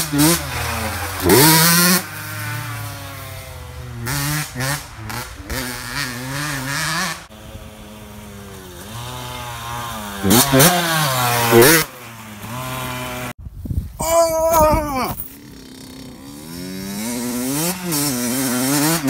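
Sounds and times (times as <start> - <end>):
dirt bike engine revving: 0.0 - 13.4, 15.1 - 19.0.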